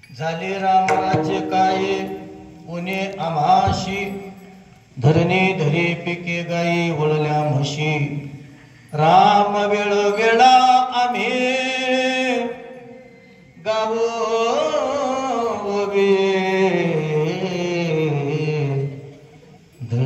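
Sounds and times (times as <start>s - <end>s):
man chanting into a microphone: 0.2s - 4.4s, 5.0s - 12.8s, 13.6s - 19.1s.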